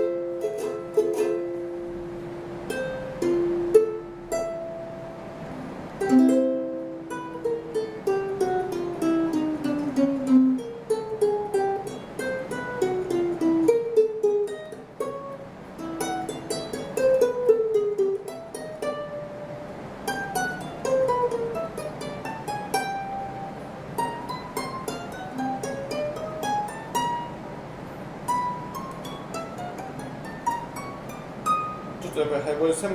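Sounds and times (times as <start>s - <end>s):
ukulele fingerpicked melody: 0.0s - 32.9s.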